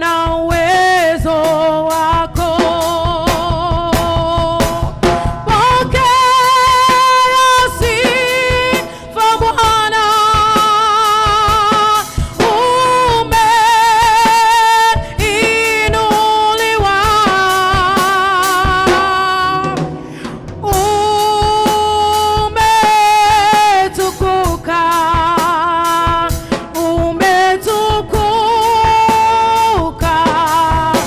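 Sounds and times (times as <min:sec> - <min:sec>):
person singing with vibrato: 0:00.0 - 0:31.0
steady drum beat: 0:00.0 - 0:31.0
backing instruments: 0:00.6 - 0:31.0.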